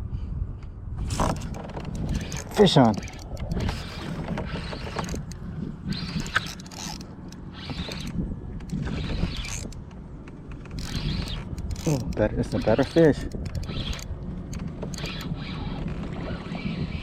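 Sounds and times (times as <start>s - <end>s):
fishing reel cranking: 1.2s - 17.0s.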